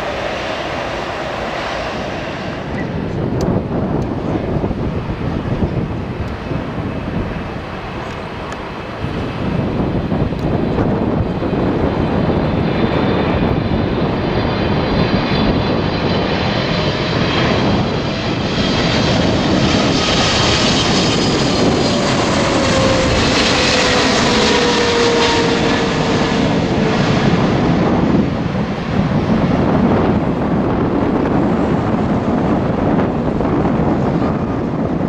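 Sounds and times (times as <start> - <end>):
jet engines passing overhead: 0.0 - 35.0.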